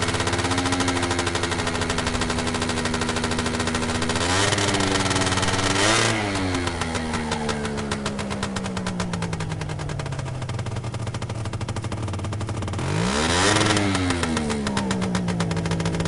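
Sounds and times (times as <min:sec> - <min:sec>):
scooter engine revving: 0:00.0 - 0:16.0.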